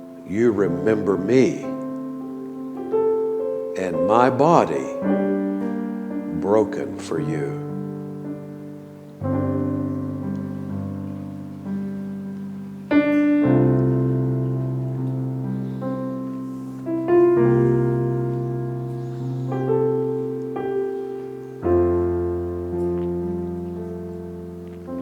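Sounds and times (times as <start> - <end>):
slow piano chords: 0.0 - 25.0.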